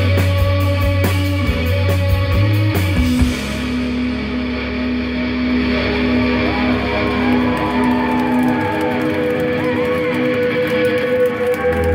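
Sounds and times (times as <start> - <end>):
electric guitar ringing notes: 0.0 - 11.9
sliding wavering guitar: 0.0 - 11.9.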